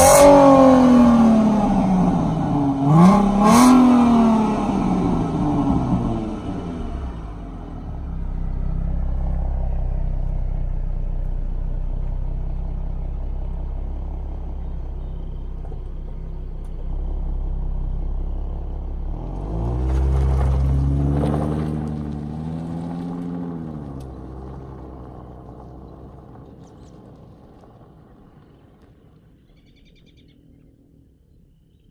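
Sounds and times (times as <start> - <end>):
car engine rumbling and revving: 0.0 - 31.8.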